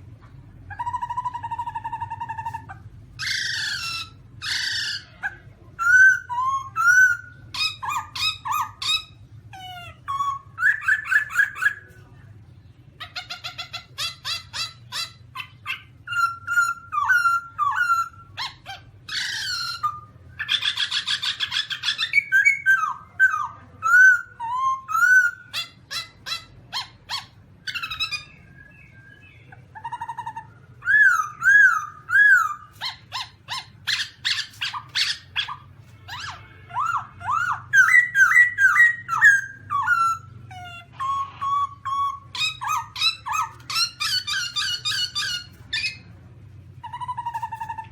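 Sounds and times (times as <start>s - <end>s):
bird whistling and chattering: 0.6s - 12.2s, 12.9s - 46.1s, 46.7s - 47.9s.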